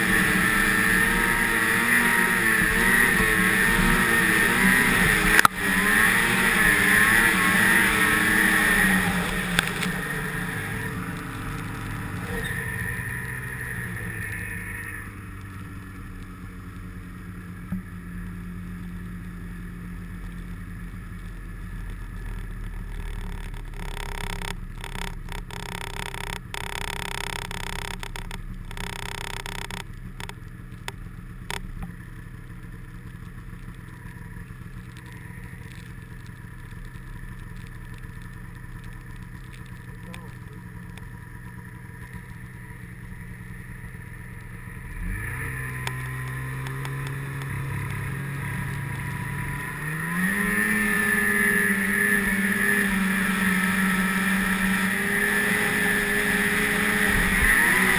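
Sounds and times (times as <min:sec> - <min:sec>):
snowmobile engine running: 0:00.0 - 0:57.9.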